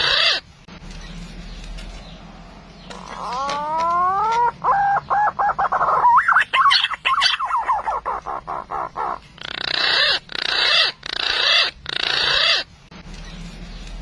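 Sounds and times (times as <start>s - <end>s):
bird calls: 0.0s - 14.0s.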